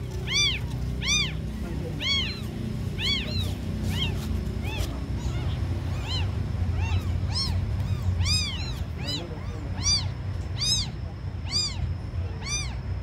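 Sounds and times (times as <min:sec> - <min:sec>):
kittens mewing: 0:00.0 - 0:13.0
low hum: 0:00.0 - 0:13.0.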